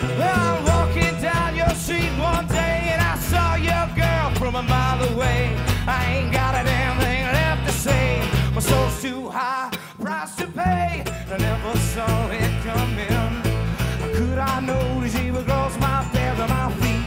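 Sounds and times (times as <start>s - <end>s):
bending lead guitar line: 0.0s - 9.1s, 10.4s - 17.0s
upright bass: 0.0s - 9.1s, 10.4s - 17.0s
drums: 0.0s - 17.0s
strummed acoustic guitar: 0.0s - 17.0s.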